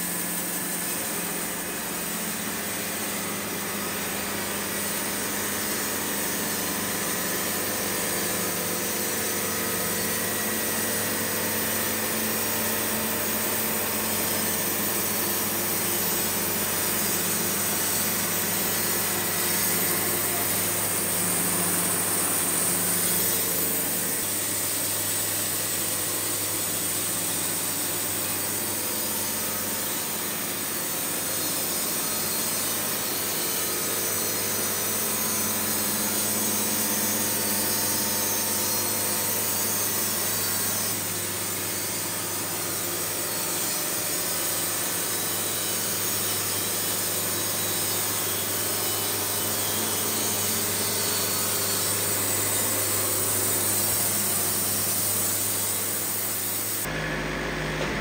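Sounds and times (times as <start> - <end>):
bandsaw blade cutting wood: 0.0 - 58.0.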